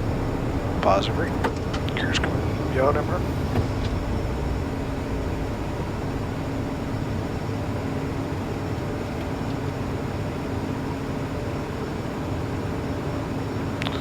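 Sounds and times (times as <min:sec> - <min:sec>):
constant low hum: 0:00.0 - 0:14.0
jet engines and airflow rushing: 0:00.0 - 0:14.0.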